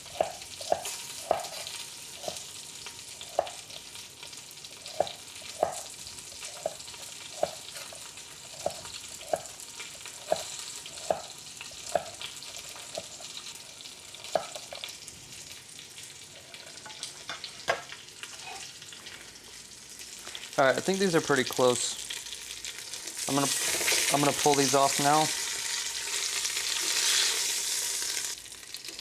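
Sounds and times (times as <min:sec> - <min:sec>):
fat sizzling in a hot pan: 0:00.0 - 0:29.0.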